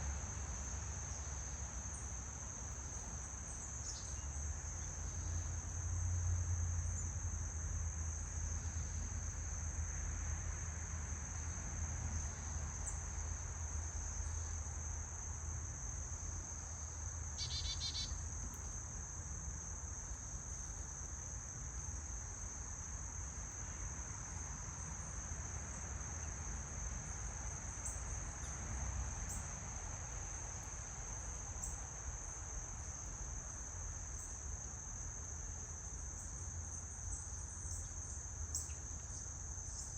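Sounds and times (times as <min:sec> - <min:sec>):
crickets trilling: 0:00.0 - 0:39.9
rapid pulsed insect call: 0:00.0 - 0:39.9.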